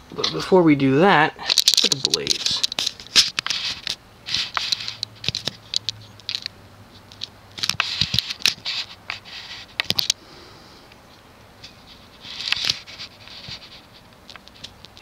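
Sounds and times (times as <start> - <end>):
plastic fan blades clicking and scraping: 1.4 - 10.2, 10.9 - 15.0.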